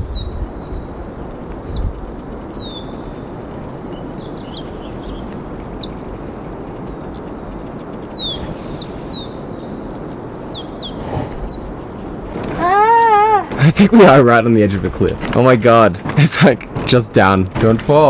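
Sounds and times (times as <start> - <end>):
small birds chirping: 0.0 - 18.0
steady rushing noise: 0.0 - 18.0.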